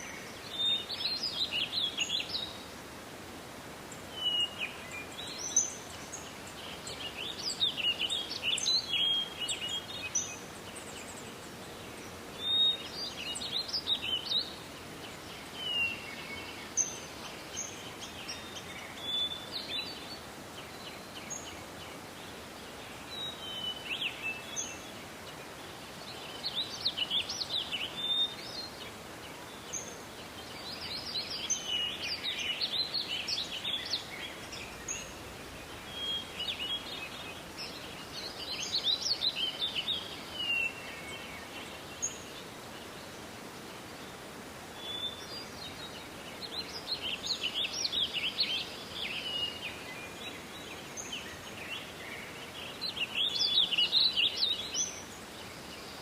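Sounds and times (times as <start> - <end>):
forest ambience hiss: 0.0 - 56.0
songbirds twittering: 0.0 - 56.0.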